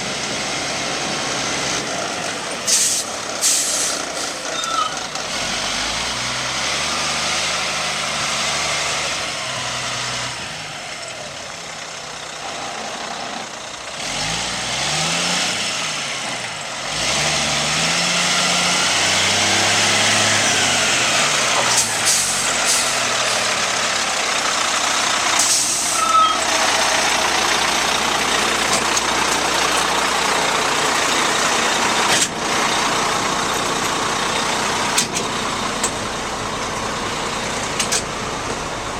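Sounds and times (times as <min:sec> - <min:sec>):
diesel truck engine revving: 0:00.0 - 0:38.9.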